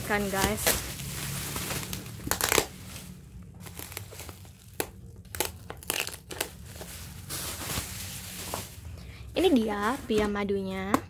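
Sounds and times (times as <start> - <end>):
bubble wrap crinkling: 0.0 - 10.3.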